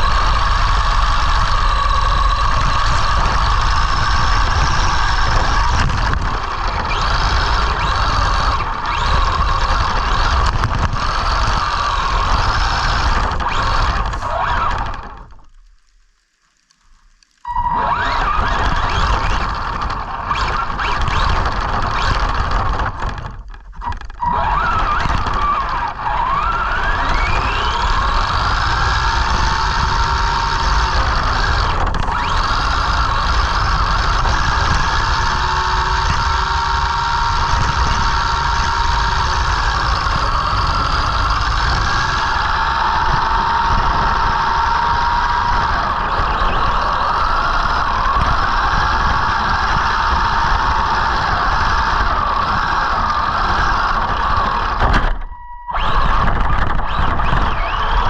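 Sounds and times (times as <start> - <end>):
electric motor whining: 0.0 - 15.6, 17.2 - 58.0
steady rushing noise: 0.0 - 24.1, 26.6 - 58.0.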